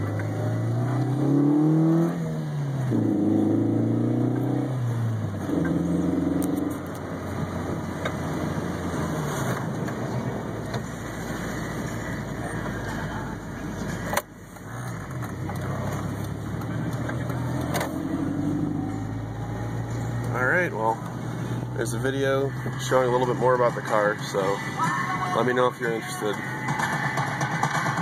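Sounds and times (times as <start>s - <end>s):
car engine revving and idling: 0.0s - 28.0s
road noise: 0.0s - 28.0s.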